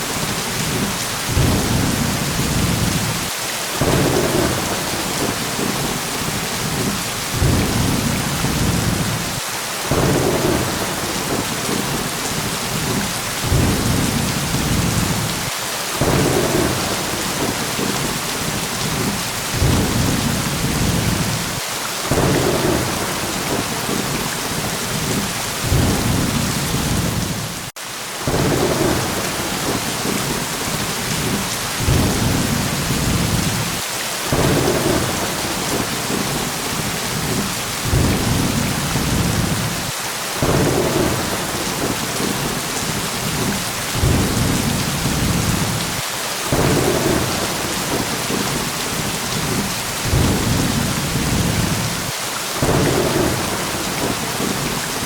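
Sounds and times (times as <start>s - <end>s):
heavy rain: 0.0s - 55.0s
low thunder rumbles: 0.6s - 27.7s, 28.3s - 54.7s.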